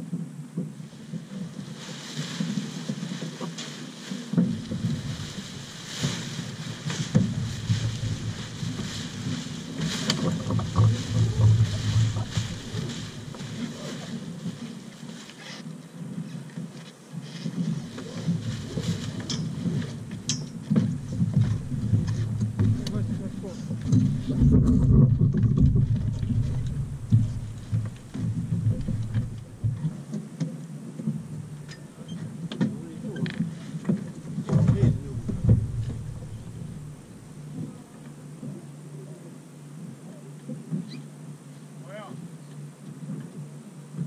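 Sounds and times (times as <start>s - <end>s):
wind rumble on microphone: 0.0s - 15.0s, 15.9s - 38.8s
sailcloth rustling and crackling: 0.5s - 44.0s.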